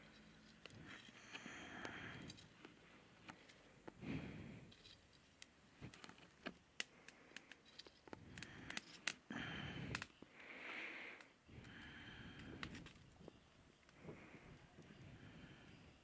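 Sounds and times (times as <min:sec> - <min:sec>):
wood fire crackling and popping: 0:00.4 - 0:15.7.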